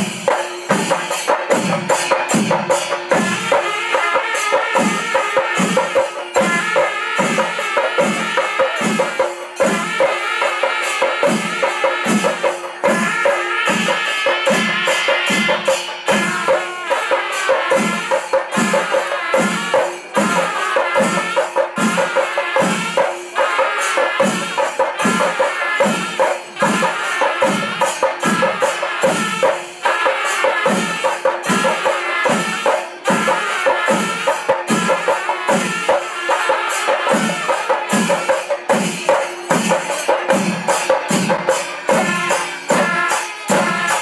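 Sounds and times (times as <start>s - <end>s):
chenda drums beating: 0.0s - 44.0s
cymbals clashing: 0.0s - 44.0s.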